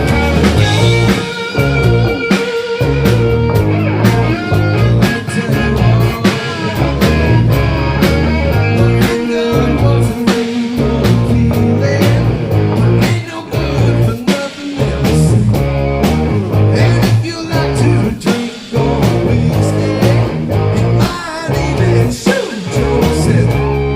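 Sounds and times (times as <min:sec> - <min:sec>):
bass guitar: 0:00.0 - 0:23.9
electric guitar bending notes: 0:00.0 - 0:23.9
steady drum beat: 0:00.0 - 0:23.9.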